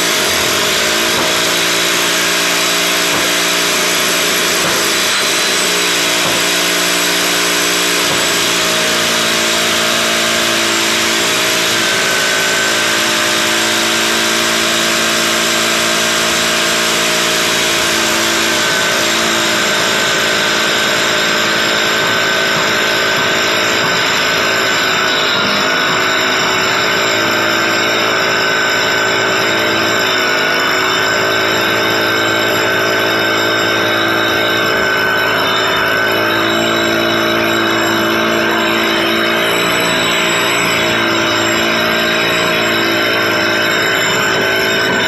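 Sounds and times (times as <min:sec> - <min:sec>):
jackhammer running: 0:00.0 - 0:45.0.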